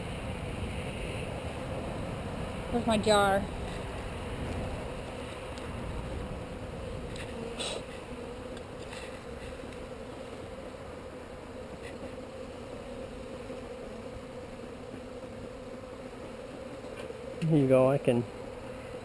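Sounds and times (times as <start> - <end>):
honeybees droning: 0.0 - 19.0.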